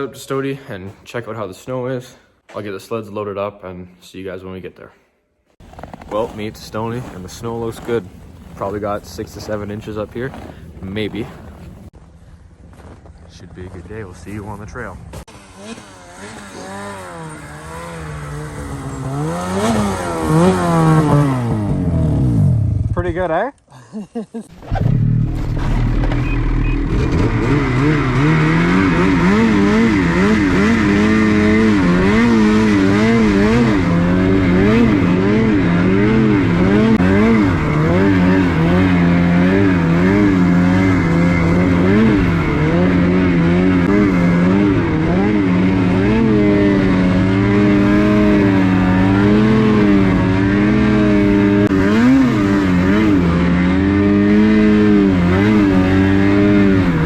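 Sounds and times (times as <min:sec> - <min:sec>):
snowmobile engine revving: 0:05.6 - 0:11.9, 0:13.3 - 0:23.1, 0:24.4 - 0:57.0.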